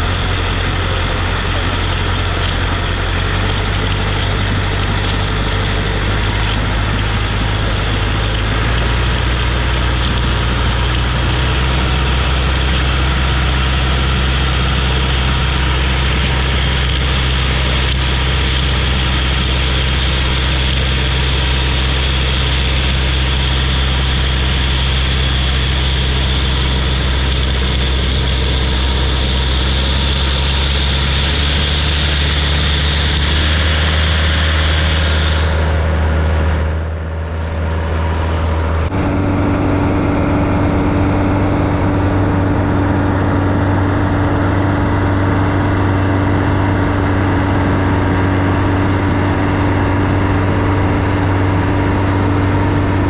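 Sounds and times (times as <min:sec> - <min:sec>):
boat engine running: 0:00.0 - 0:53.0
rushing wake water: 0:00.0 - 0:53.0.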